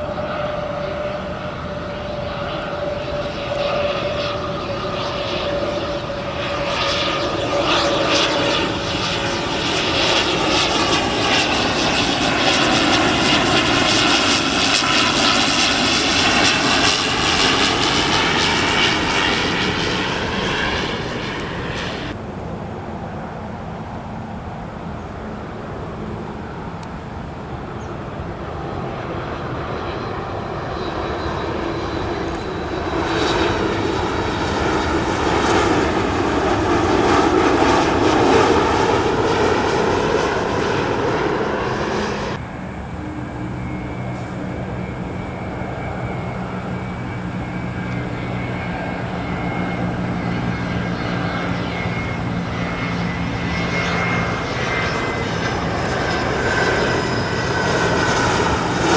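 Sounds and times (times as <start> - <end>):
jet engine hum with high whine: 0.0 - 58.9
jet engines roaring: 0.0 - 58.9.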